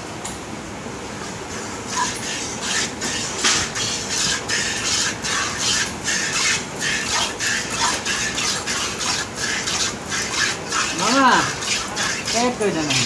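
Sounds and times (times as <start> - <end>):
milk squirting into a pail: 1.6 - 13.0.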